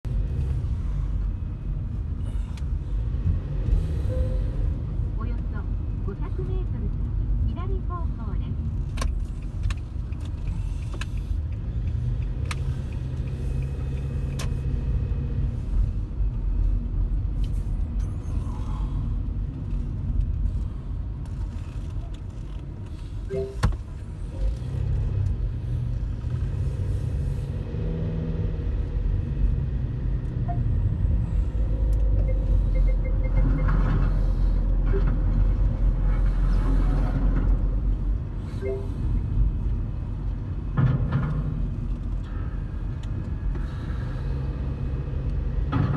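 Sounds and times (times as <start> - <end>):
car engine and tyres rumbling: 0.0 - 45.9.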